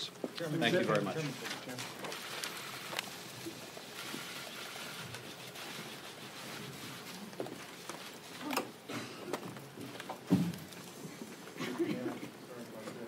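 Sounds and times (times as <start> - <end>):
murmur of people shuffling: 0.0 - 13.0.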